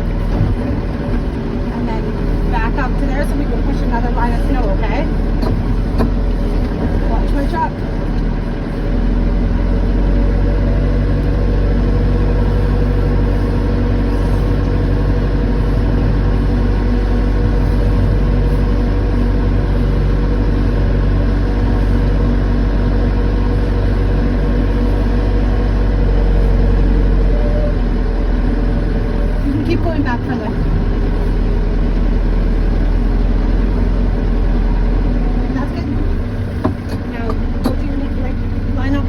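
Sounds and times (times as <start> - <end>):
backhoe diesel engine running: 0.0 - 39.0.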